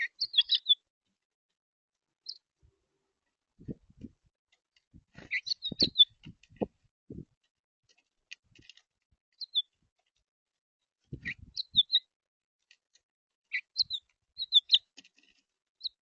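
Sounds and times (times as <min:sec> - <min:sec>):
songbirds chirping: 0:00.0 - 0:01.2, 0:02.0 - 0:06.8, 0:07.9 - 0:10.2, 0:10.8 - 0:16.0.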